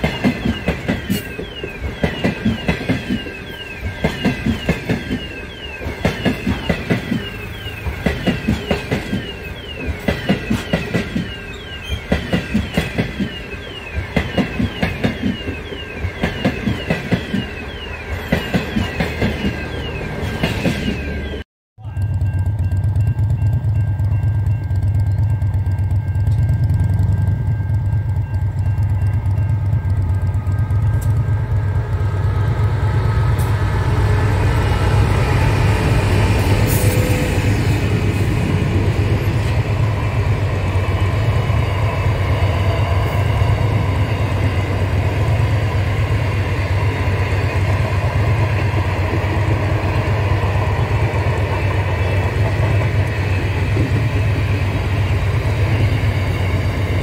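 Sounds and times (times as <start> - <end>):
train low rumble: 0.0 - 57.0
wheels on rails: 0.0 - 57.0.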